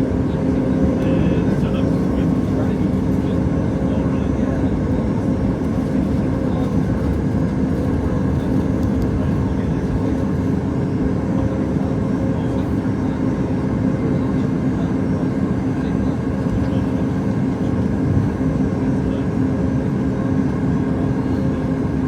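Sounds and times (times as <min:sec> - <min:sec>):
airplane cabin jet engine rumble: 0:00.0 - 0:22.0.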